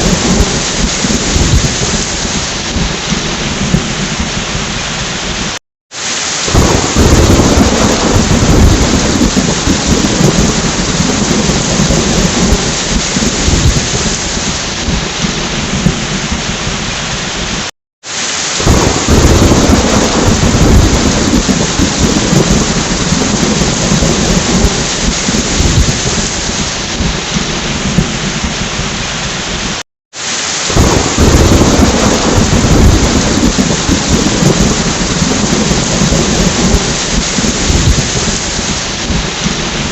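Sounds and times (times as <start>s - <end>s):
low rumbling thunder: 0.0s - 5.5s, 6.5s - 17.6s, 18.6s - 29.6s, 30.7s - 39.9s
heavy rain falling: 0.0s - 39.9s.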